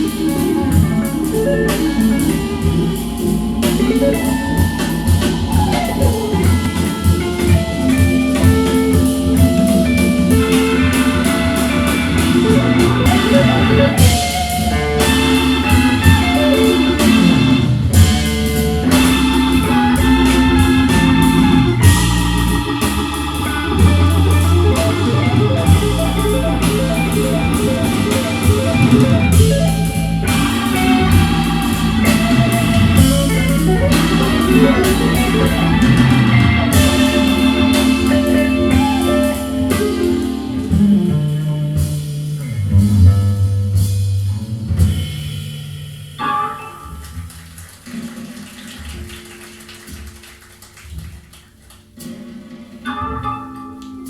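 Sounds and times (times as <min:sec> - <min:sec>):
rock music from vinyl record: 0:00.0 - 0:43.1, 0:46.2 - 0:47.5, 0:51.8 - 0:54.0.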